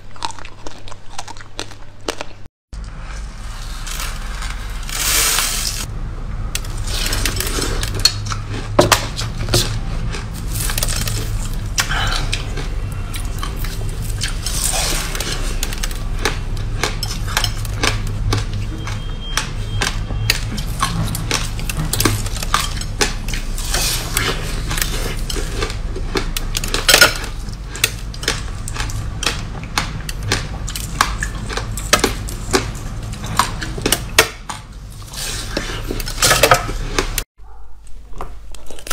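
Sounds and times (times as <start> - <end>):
crunching and chewing ice: 0.0 - 5.9, 6.6 - 38.9
low hum: 2.8 - 38.1.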